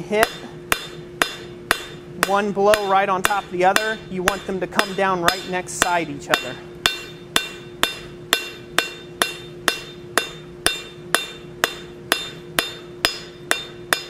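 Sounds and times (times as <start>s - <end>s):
hammer striking hot steel on anvil: 0.0s - 14.0s
steady low hum: 0.0s - 14.0s.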